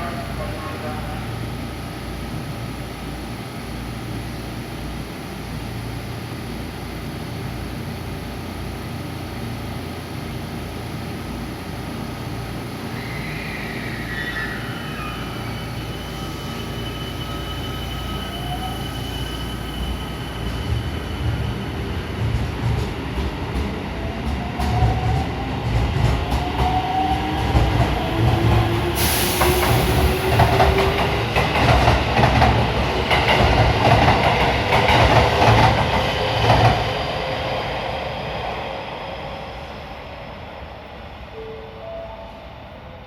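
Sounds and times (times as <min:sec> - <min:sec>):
electric train rumble: 0:00.0 - 0:43.0.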